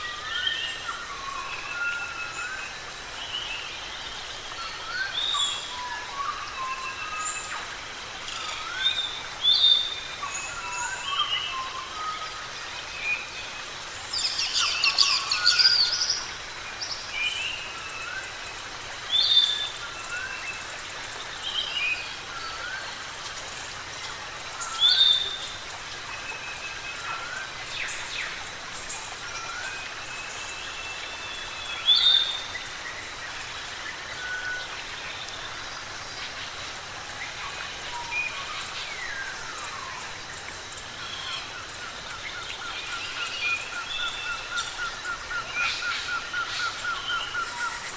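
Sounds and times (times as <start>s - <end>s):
background hiss: 0.0s - 47.9s.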